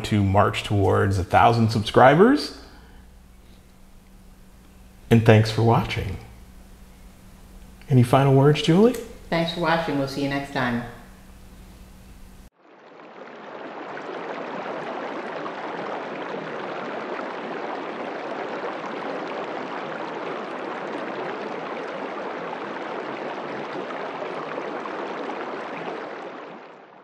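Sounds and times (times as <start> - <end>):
water rushing: 0.0 - 11.2, 12.6 - 27.0.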